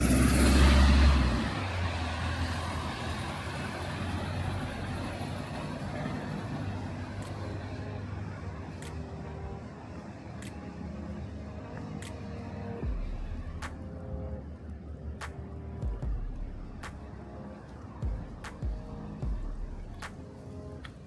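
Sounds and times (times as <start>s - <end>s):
traffic noise: 0.0s - 21.0s
vehicle passing with low rumble: 0.0s - 21.0s.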